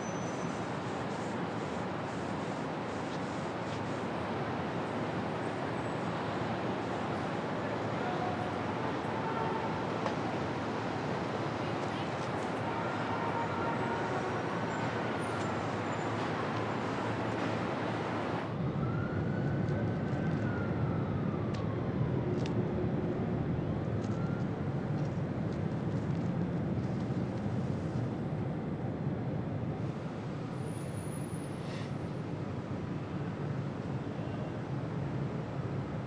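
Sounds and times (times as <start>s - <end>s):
city traffic rumble: 0.0s - 36.0s.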